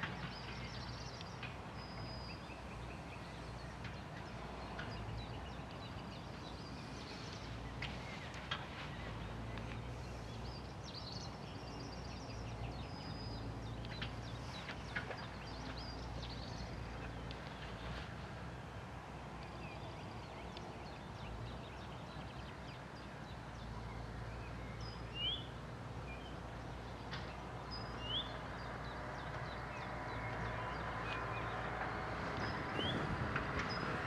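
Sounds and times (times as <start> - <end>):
bird chirping: 0.0 - 18.0, 19.4 - 34.0
diesel engine running at low revs: 0.0 - 34.0.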